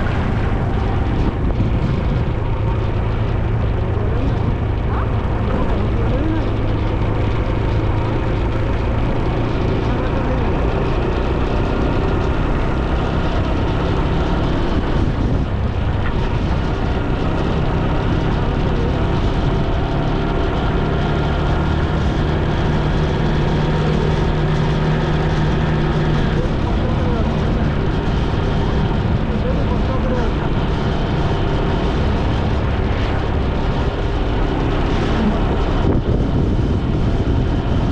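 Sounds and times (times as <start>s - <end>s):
motorcycle engine running: 0.0s - 37.9s
wind and road noise: 0.0s - 37.9s.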